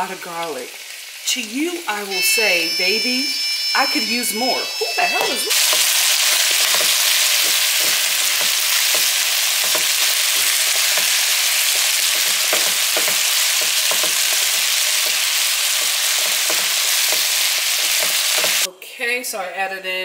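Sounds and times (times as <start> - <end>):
vegetables sizzling in oil: 0.0 - 18.7.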